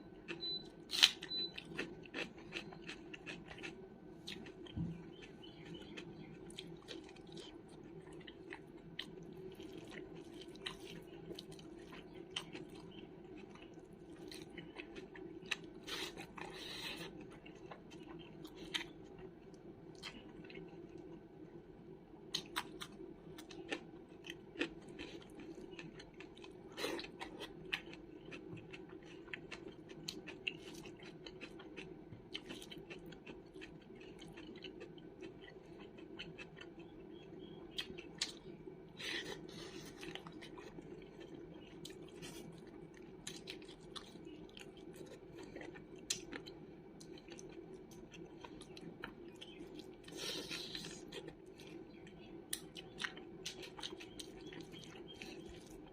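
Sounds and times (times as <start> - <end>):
person chewing food: 0.2 - 21.7, 22.3 - 55.9.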